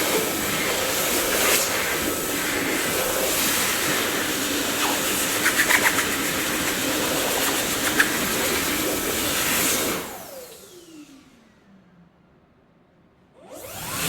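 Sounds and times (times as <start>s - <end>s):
vacuum cleaner running: 0.0s - 11.6s, 13.4s - 14.0s.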